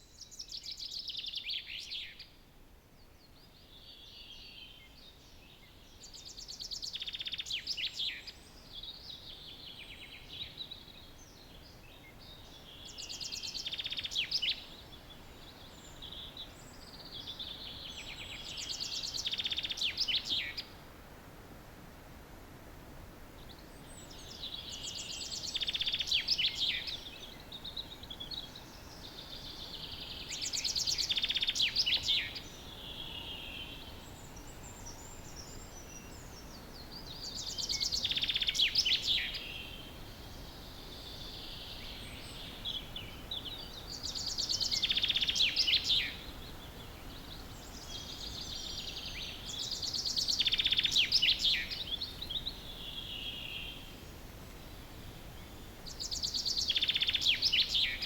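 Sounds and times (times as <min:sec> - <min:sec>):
small birds twittering: 0:00.0 - 0:02.4, 0:03.0 - 0:20.8, 0:23.4 - 0:58.0
chaffinch singing: 0:05.4 - 0:20.8, 0:23.5 - 0:58.0.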